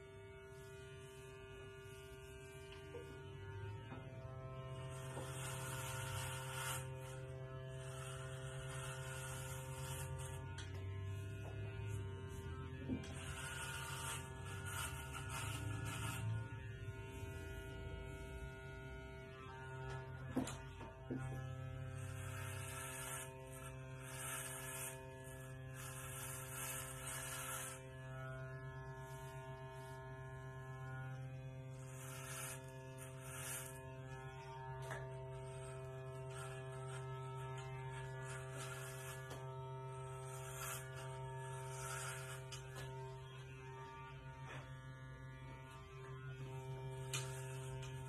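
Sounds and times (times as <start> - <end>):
electric hair clippers buzzing: 0.0 - 48.0.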